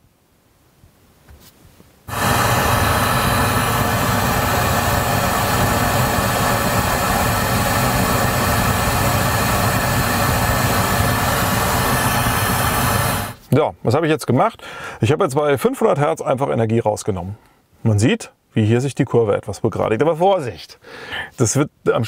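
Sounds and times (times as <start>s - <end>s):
test noise hiss over speakers: 0.0s - 22.0s.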